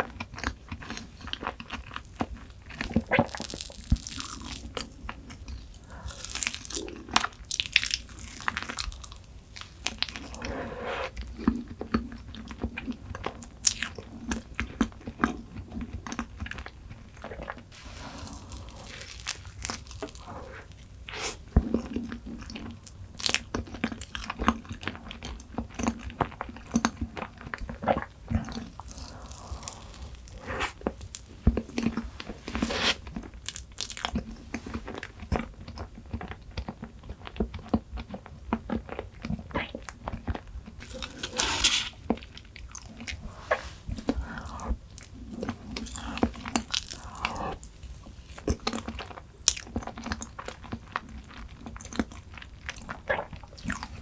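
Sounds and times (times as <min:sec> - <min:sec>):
crunchy bites and chewing: 0:00.4 - 0:10.4, 0:17.2 - 0:25.0, 0:25.8 - 0:54.0.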